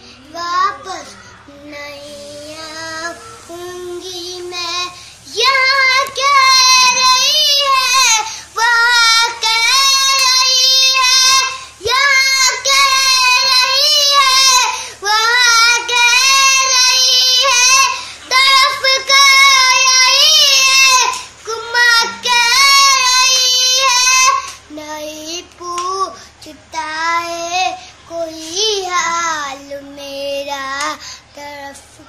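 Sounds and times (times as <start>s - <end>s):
boy singing unaccompanied: 0.0s - 32.0s.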